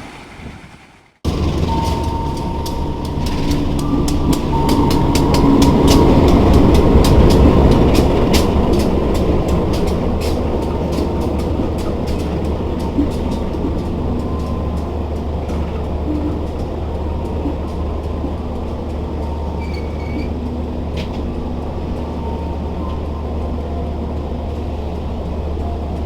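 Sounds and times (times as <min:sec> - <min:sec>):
diesel train rumbling on track: 0:00.0 - 0:26.0.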